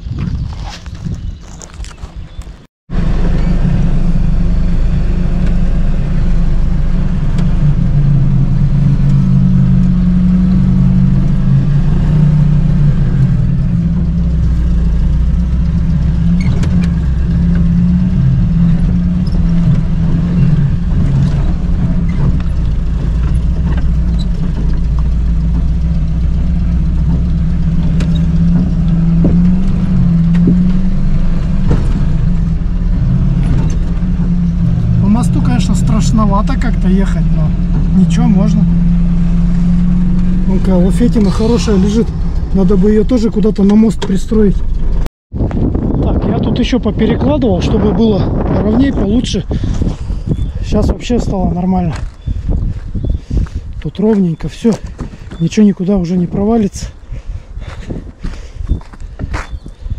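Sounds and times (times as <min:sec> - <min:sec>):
off-road vehicle engine under load: 0:00.0 - 0:59.9.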